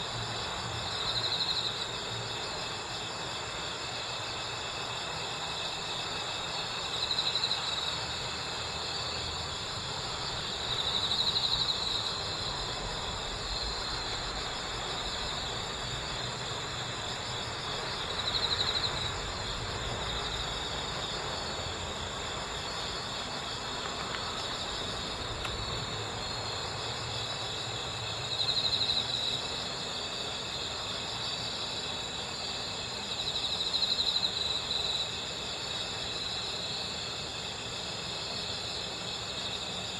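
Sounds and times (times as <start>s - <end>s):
cricket trilling: 0.0s - 39.9s
high ringing insect chorus: 0.0s - 39.9s.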